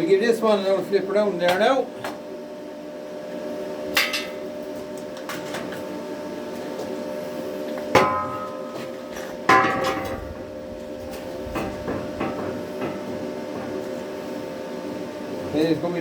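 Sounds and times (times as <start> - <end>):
machine hum: 2.4 - 16.0.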